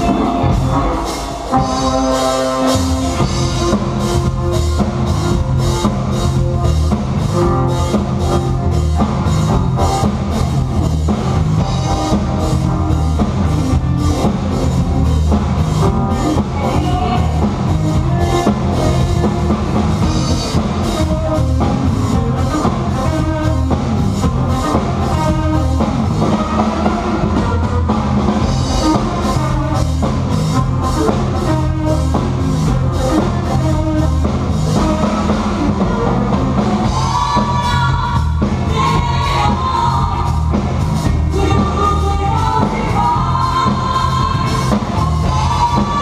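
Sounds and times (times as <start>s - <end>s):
rock band with drum kit: 0.0s - 46.0s.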